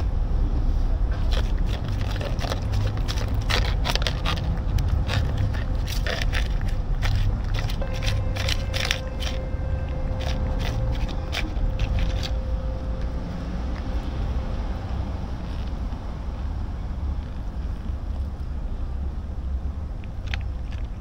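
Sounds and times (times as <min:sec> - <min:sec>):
cat chewing and lapping food: 0:00.0 - 0:21.0
steady low rumble: 0:00.0 - 0:21.0.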